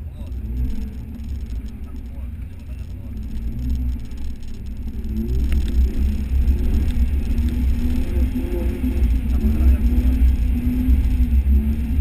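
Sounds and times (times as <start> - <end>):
car engine rumbling while driving: 0.0 - 12.0.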